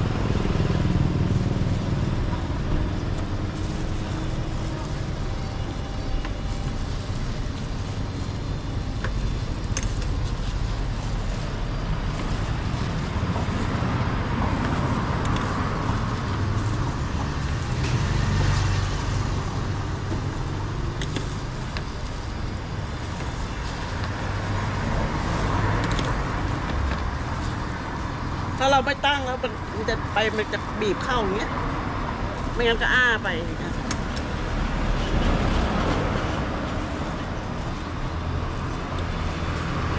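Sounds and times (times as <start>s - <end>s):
traffic rumble: 0.0s - 39.9s.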